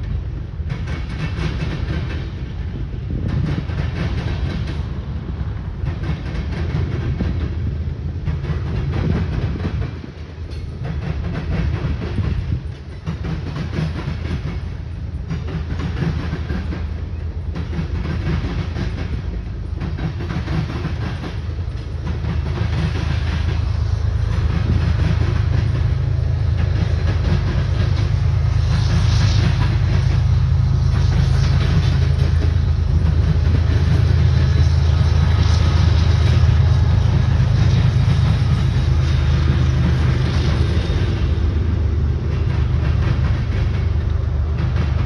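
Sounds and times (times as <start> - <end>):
freight train rumbling: 0.0 - 45.0
wheels clacking over rail joints: 0.0 - 45.0.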